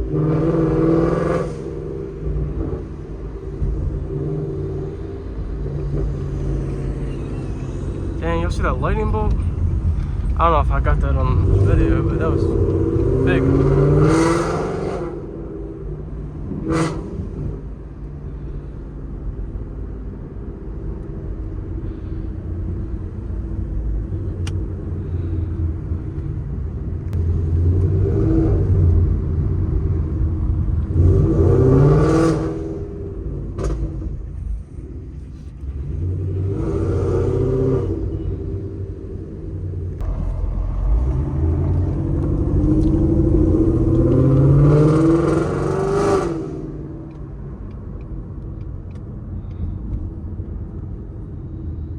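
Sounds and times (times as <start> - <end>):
car exhaust accelerating: 0.0 - 51.9.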